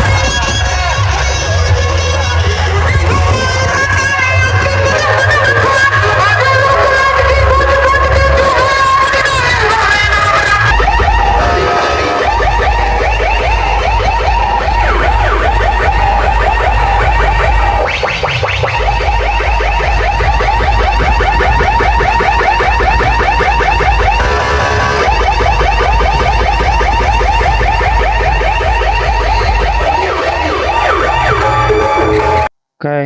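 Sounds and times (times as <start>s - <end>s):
siren-like warble over heavy bass: 0.0s - 32.5s.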